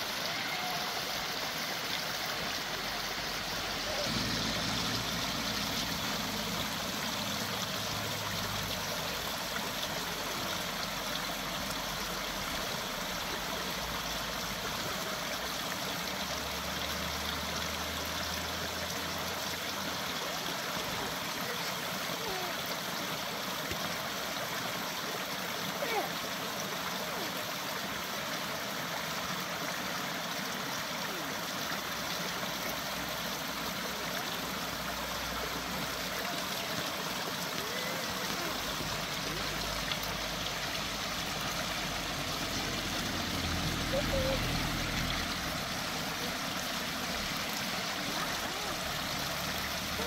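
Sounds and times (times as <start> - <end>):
brook rushing over stones: 0.0 - 50.0.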